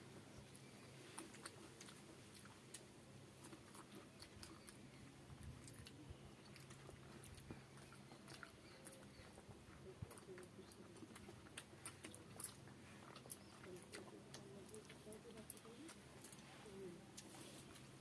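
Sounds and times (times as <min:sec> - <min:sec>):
faint low hum: 0:00.0 - 0:18.0
person chewing food: 0:00.6 - 0:18.0.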